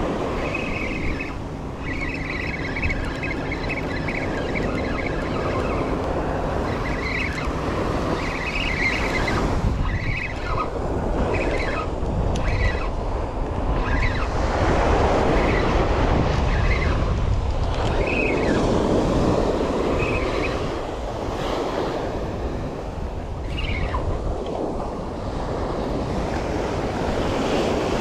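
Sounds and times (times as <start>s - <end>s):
spinning reel whirring: 0.0s - 21.1s, 23.4s - 24.8s
wind buffeting microphone: 0.0s - 28.0s.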